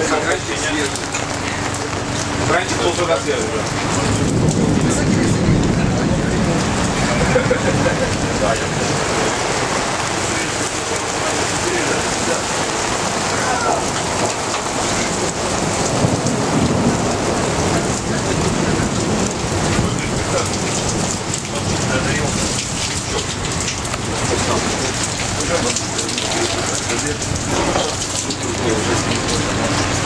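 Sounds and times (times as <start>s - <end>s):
heavy rain pouring: 0.0s - 30.0s
low rumble of thunder: 1.7s - 11.4s, 13.0s - 30.0s.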